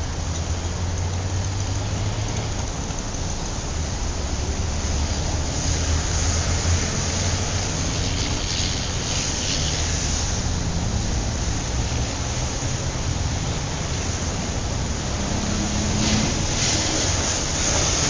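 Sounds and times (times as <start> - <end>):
continuous hiss: 0.0 - 18.0
low rumble of vehicles: 0.0 - 18.0.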